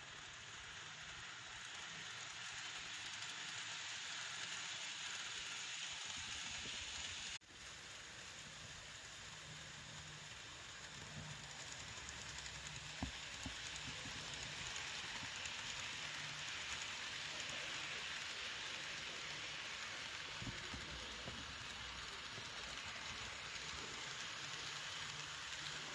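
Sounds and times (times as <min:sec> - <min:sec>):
model train rolling on track: 0:00.0 - 0:25.9.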